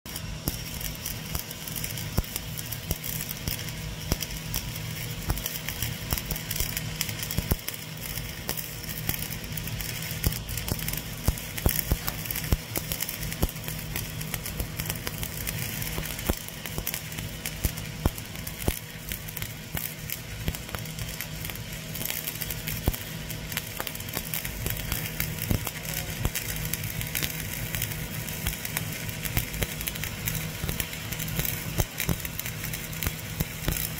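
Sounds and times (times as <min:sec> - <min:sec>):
welding arc crackling: 0:00.1 - 0:33.9.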